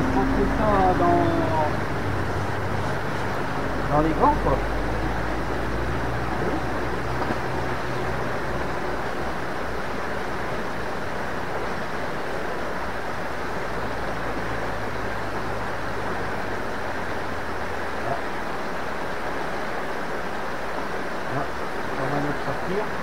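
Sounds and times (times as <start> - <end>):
low hum: 0.0 - 18.4
river rushing over stones: 0.0 - 23.0.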